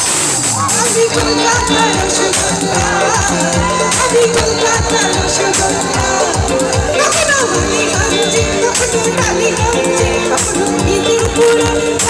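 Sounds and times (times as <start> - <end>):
drum beat: 0.0 - 12.0
live band music: 0.0 - 12.0
person singing: 0.6 - 12.0.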